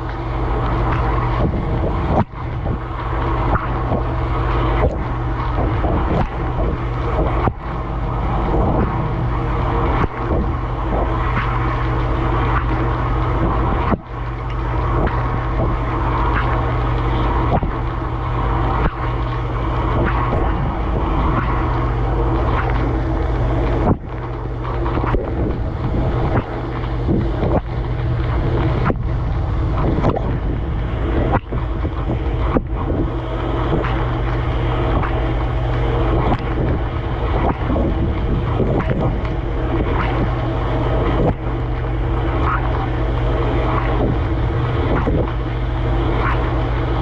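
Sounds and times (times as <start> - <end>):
pump motor hum: 0.0 - 47.0
water spraying and splashing: 0.0 - 47.0.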